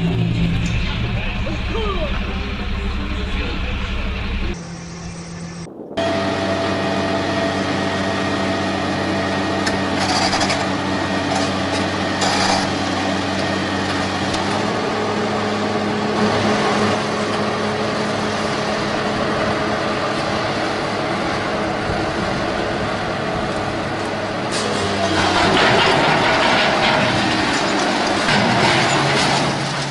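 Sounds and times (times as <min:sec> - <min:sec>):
heavy equipment engine running: 0:00.0 - 0:29.9.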